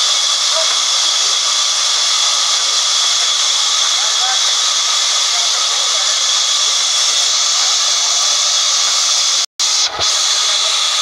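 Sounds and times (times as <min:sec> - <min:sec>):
band saw cutting log: 0:00.0 - 0:11.0.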